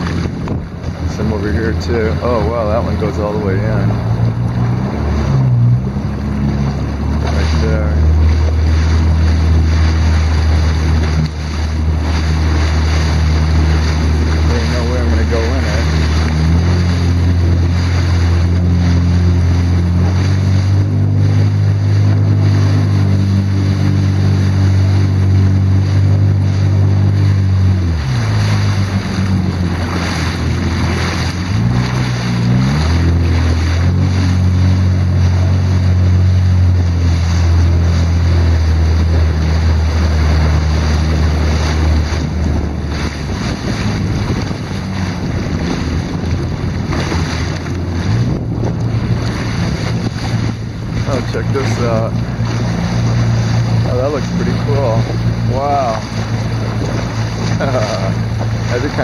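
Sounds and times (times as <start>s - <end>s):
jet ski engine running: 0.0s - 59.0s
water noise: 0.0s - 59.0s
wind on microphone: 0.0s - 59.0s.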